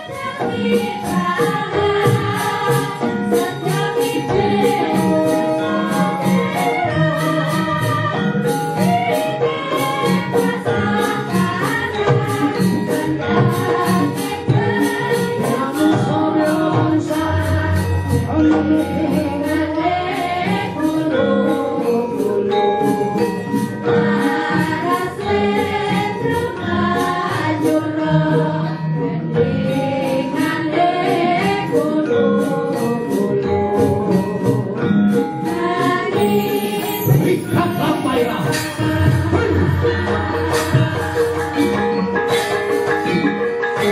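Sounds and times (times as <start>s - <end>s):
women singing together: 0.0s - 23.1s, 23.8s - 42.6s
struck metallic percussion: 0.0s - 43.9s.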